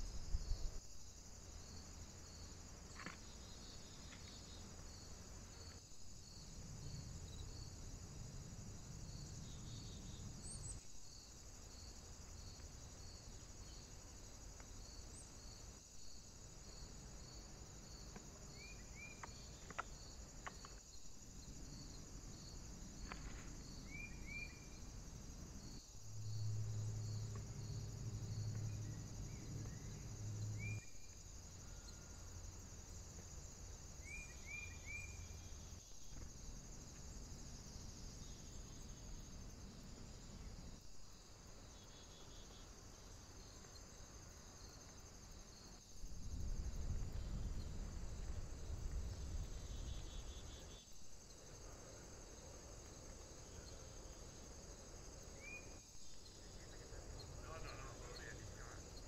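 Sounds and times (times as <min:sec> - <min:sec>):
high insect chirring: 0:00.0 - 0:59.0.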